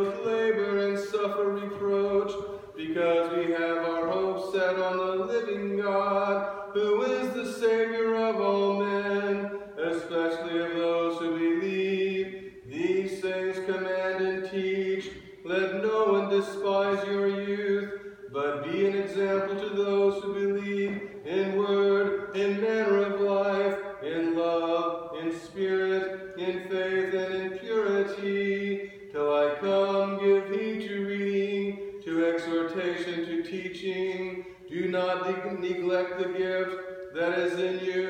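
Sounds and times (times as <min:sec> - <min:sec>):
man chanting: 0:00.0 - 0:38.0.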